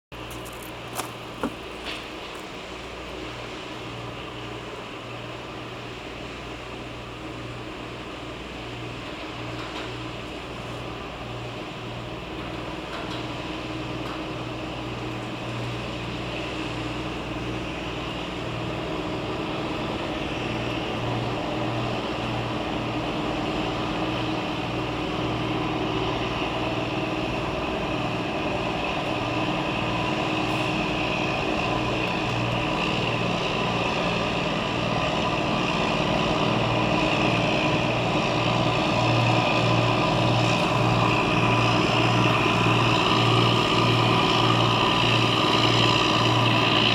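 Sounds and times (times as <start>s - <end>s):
tug diesel engine hum: 0.2s - 46.9s.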